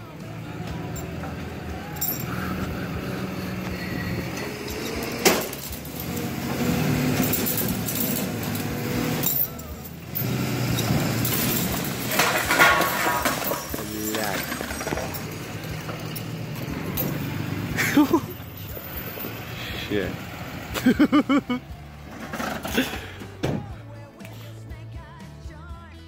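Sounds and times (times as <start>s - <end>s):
pickup truck engine revving: 0.0s - 23.4s.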